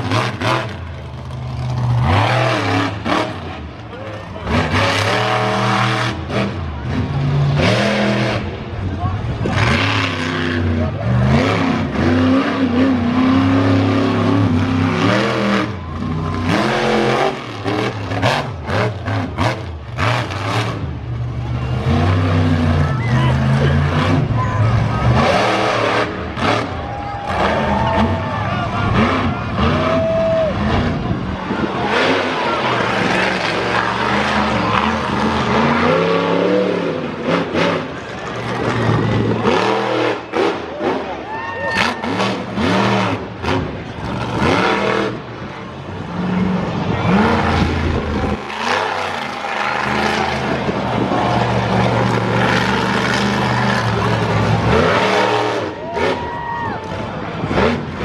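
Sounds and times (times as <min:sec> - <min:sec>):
monster truck engine revving: 0:00.0 - 0:58.0.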